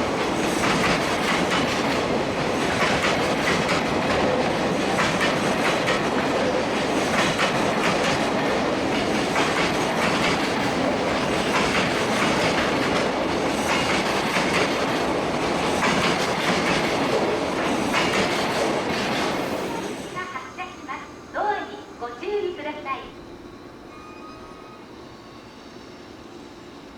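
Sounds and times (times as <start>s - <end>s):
freight train rolling past: 0.0s - 26.9s.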